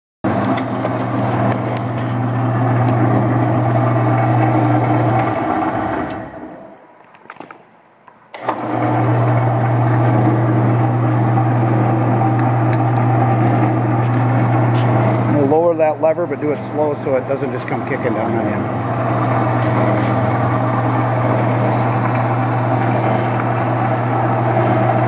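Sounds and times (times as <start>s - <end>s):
band saw motor humming: 0.3s - 6.7s, 8.4s - 25.0s.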